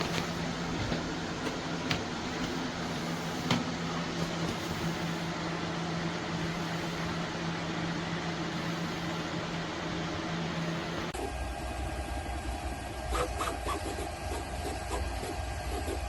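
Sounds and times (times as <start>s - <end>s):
printer fan whir and motor hum: 0.0s - 16.0s.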